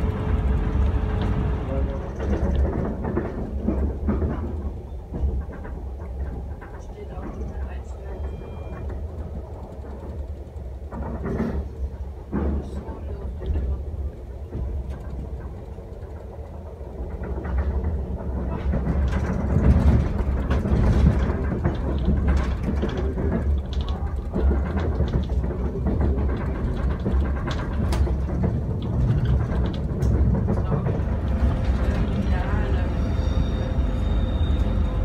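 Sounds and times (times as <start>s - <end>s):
train wheels rumbling on rail: 0.0s - 35.0s
clicks and knocks: 2.1s - 13.8s, 14.4s - 32.2s.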